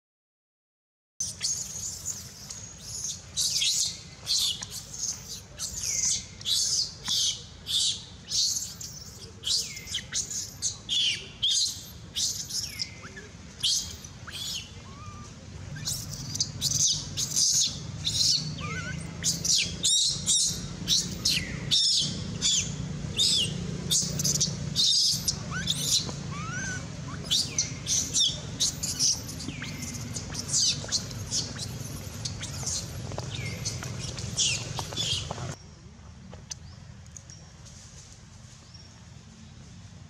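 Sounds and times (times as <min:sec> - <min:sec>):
baby monkey squealing: 0:01.2 - 0:35.3.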